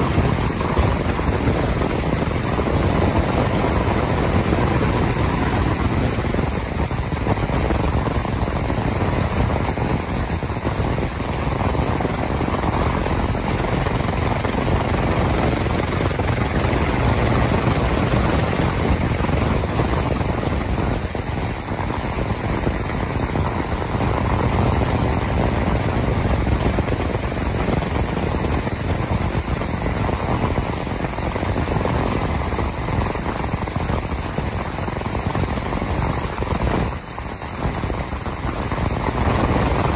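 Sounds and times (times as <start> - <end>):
ultrasonic cleaner water noise: 0.0 - 39.9.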